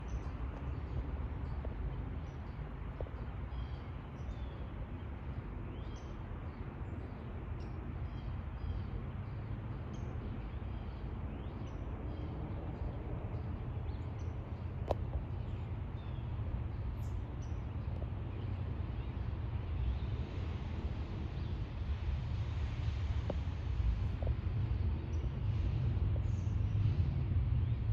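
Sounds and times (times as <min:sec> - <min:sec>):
low outdoor rumble: 0:00.0 - 0:27.9.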